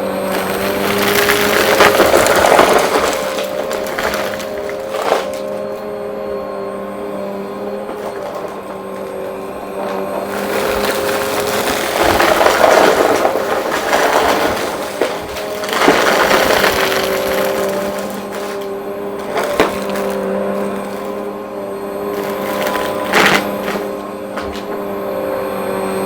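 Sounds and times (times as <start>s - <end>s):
debris crackling and rattling: 0.0s - 25.3s
vacuum cleaner motor whine: 0.0s - 26.0s.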